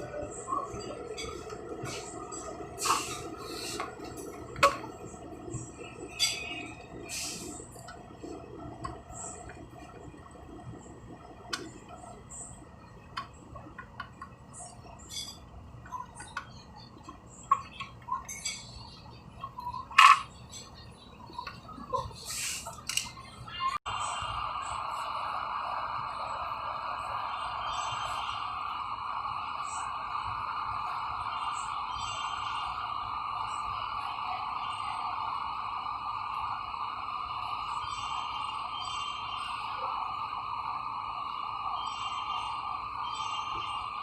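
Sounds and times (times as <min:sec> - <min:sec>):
faint background hum: 0:00.0 - 0:44.0.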